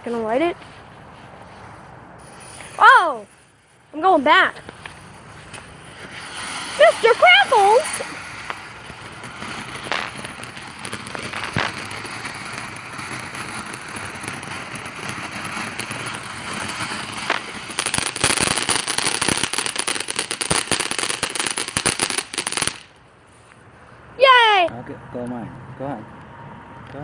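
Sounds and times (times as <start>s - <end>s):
firework fizzing and crackling: 0.0s - 23.0s.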